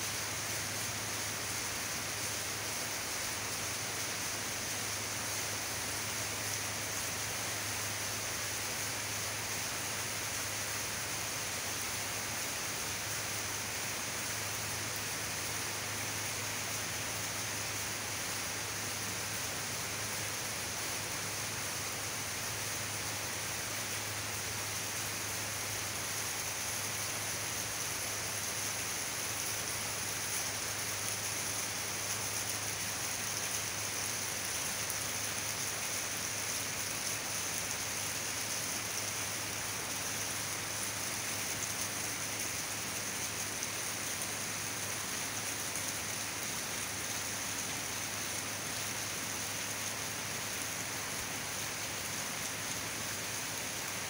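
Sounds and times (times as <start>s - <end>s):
heavy rain falling: 0.1s - 54.0s.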